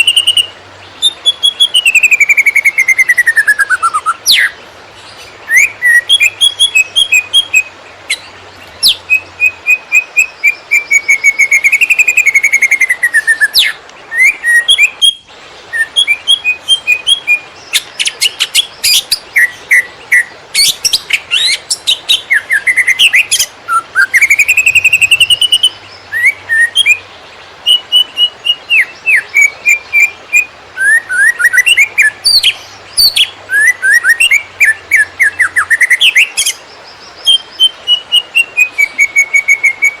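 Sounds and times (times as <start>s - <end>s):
bird singing rapid varied song: 0.0s - 40.0s.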